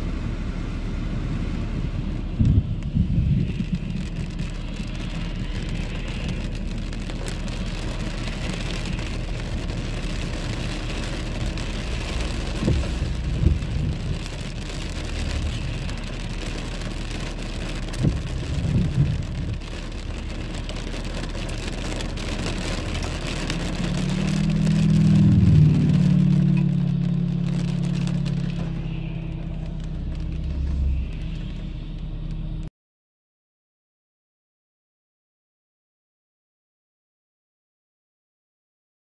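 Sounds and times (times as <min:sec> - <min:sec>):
rain on car windshield and roof: 0:00.0 - 0:32.7
vehicle engine: 0:00.0 - 0:32.7.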